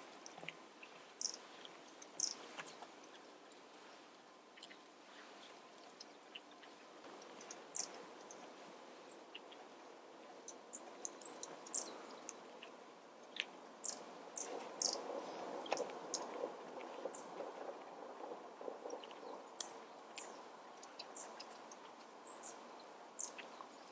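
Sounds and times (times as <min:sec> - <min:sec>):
small birds calling: 0:00.0 - 0:23.9
soft background rustle: 0:00.0 - 0:23.9.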